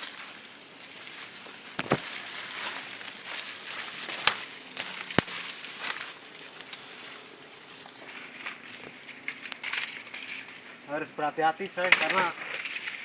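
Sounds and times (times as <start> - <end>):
rustling handling noises: 0.0 - 13.0.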